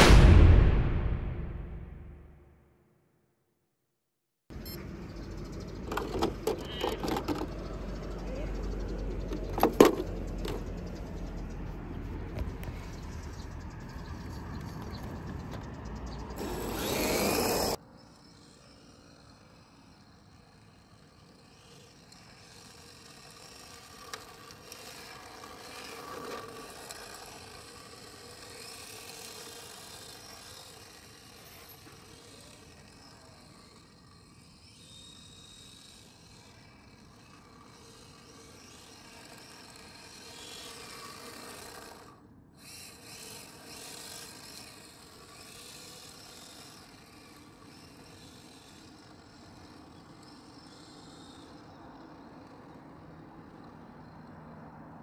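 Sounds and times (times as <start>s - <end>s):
electric motor whine: 4.5s - 54.2s
toy car tyres scrubbing asphalt: 5.4s - 54.2s.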